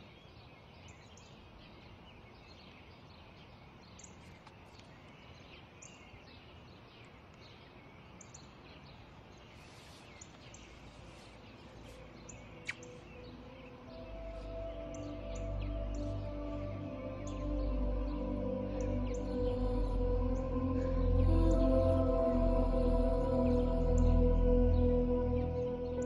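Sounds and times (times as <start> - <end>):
low outdoor hiss: 0.0 - 26.0
small birds chirping: 0.0 - 26.0.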